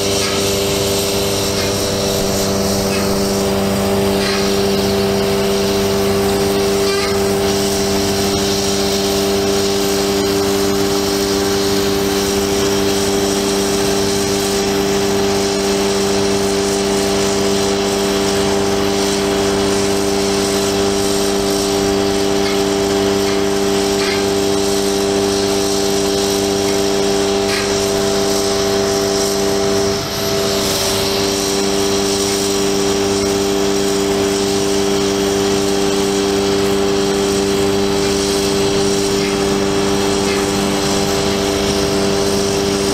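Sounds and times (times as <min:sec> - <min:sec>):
truck engine and hydraulic pump: 0:00.0 - 0:42.9.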